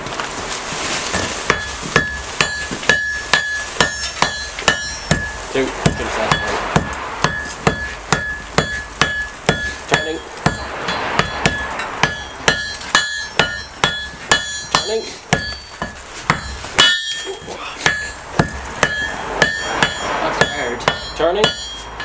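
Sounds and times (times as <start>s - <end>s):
hammer striking hot iron on anvil: 1.2s - 22.0s.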